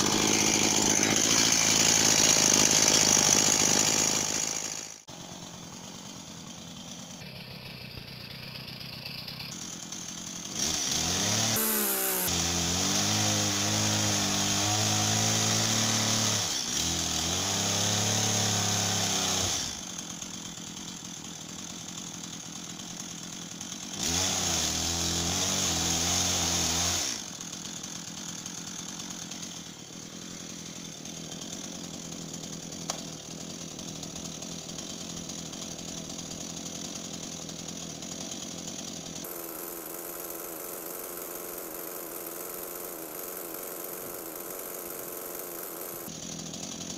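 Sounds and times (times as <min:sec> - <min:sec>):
chainsaw revving and idling: 0:00.0 - 0:46.9.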